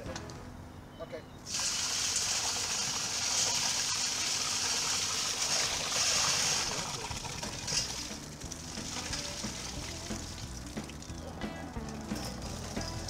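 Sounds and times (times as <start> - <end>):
water spraying from hose: 1.5 - 13.0.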